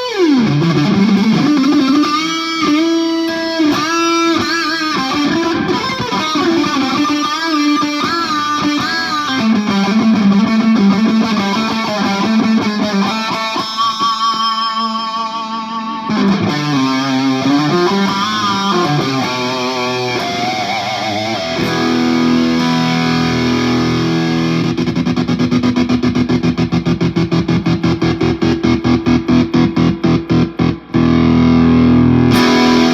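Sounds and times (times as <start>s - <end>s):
distorted electric guitar: 0.0s - 32.9s.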